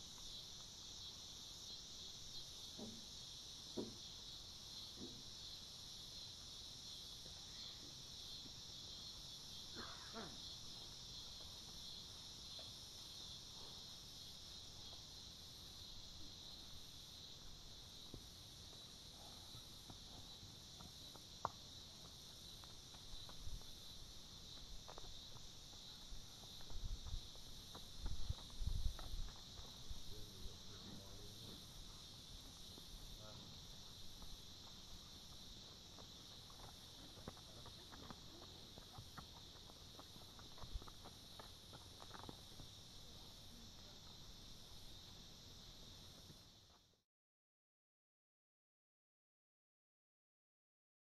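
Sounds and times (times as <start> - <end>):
insects droning: 0.0 - 47.0.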